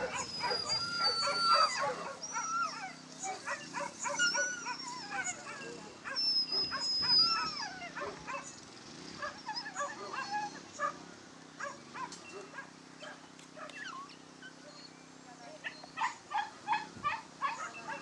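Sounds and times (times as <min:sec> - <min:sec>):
dogs yelping and whining: 0:00.0 - 0:08.6, 0:09.2 - 0:11.0, 0:11.6 - 0:18.0
steady low hum: 0:00.0 - 0:18.0.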